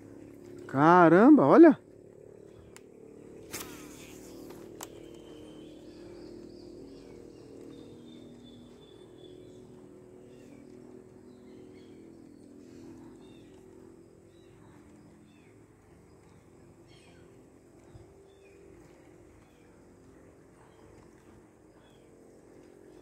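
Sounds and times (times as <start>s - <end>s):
distant motor hum: 0.0s - 23.0s.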